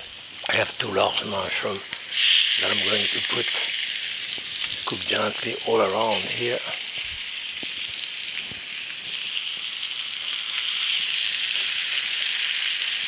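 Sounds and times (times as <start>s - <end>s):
meat and mushrooms sizzling in oil: 0.0s - 13.0s.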